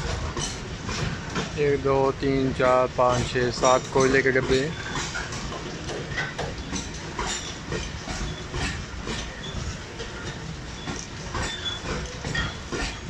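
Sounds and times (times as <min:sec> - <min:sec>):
wheel squealing on rail: 0:00.0 - 0:01.7, 0:02.4 - 0:13.0
clacks over rail joints: 0:00.0 - 0:13.0
steel wheels rumbling: 0:00.0 - 0:13.0.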